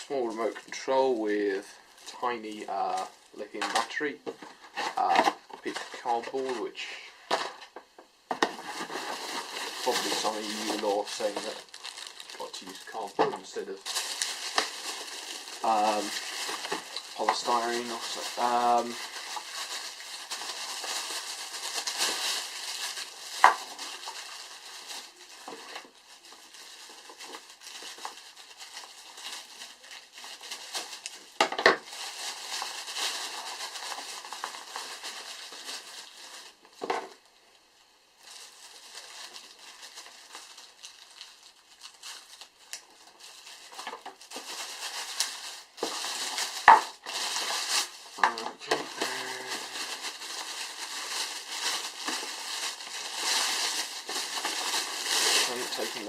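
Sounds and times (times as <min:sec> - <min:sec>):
packaging rustling and crinkling: 0:00.0 - 0:37.3, 0:38.2 - 0:56.0.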